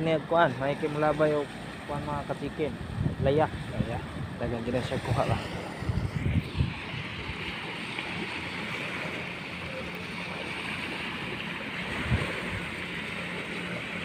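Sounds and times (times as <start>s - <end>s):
surf at the shoreline: 0.0s - 14.0s
wind: 0.0s - 14.0s.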